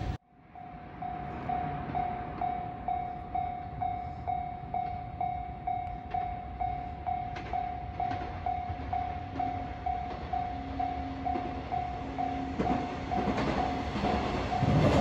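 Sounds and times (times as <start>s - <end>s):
level crossing alarm dinging: 0.6s - 15.0s.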